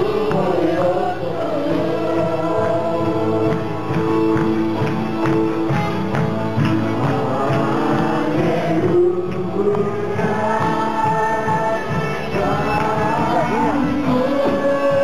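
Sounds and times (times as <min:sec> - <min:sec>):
congregation singing gospel song: 0:00.0 - 0:15.0
live music with steady beat: 0:00.0 - 0:15.0.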